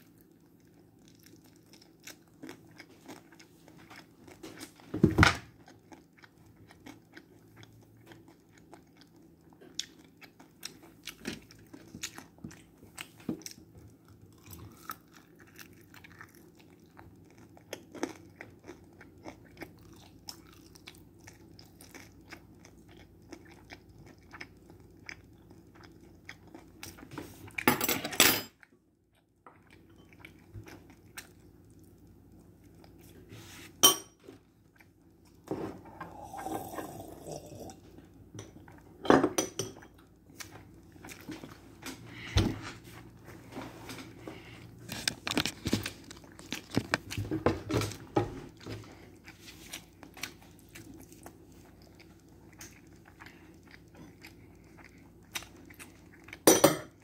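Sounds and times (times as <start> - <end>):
child chewing: 0.0 - 27.6, 28.6 - 39.0, 39.8 - 57.0.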